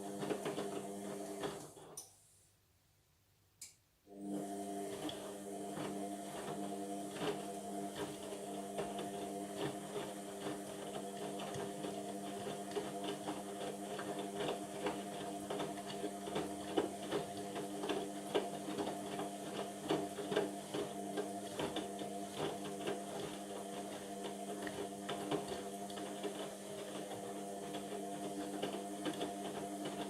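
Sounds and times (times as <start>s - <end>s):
washing machine motor hum: 0.0s - 1.8s, 4.1s - 30.0s.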